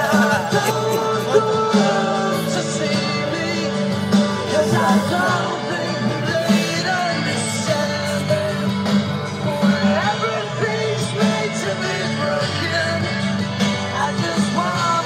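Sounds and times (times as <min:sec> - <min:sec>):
rock and roll song with singing: 0:00.0 - 0:15.0.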